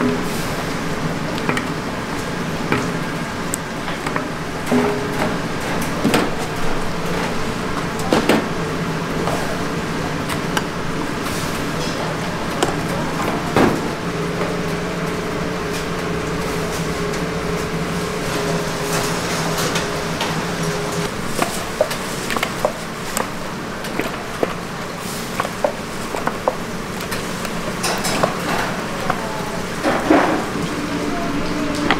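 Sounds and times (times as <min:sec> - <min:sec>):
cooking utensils clattering: 0:00.0 - 0:31.9.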